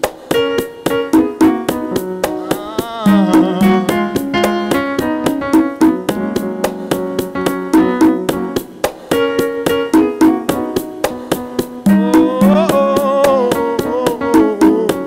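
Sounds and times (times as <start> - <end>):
instrumental gospel music with keyboard: 0.0 - 15.0.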